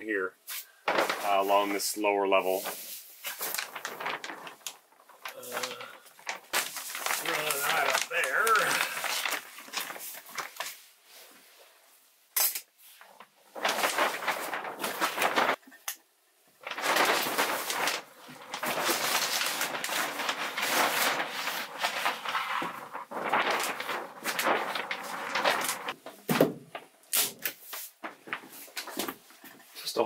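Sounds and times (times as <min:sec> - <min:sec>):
plastic sheeting rustling: 0:00.4 - 0:12.0, 0:12.8 - 0:15.6, 0:16.6 - 0:30.0.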